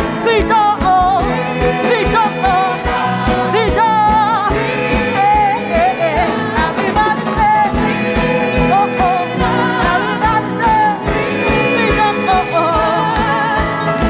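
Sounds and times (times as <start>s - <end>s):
band playing: 0.0s - 14.0s
person singing with vibrato: 0.0s - 14.0s.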